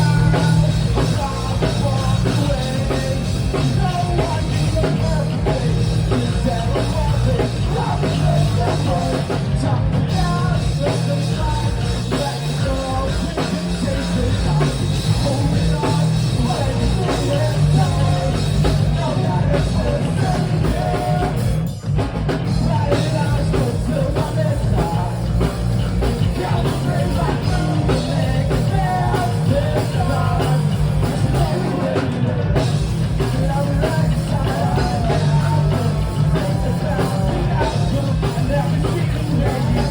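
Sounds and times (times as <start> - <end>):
person singing: 0.0 - 21.6, 22.6 - 39.9
rock band playing: 0.0 - 39.9.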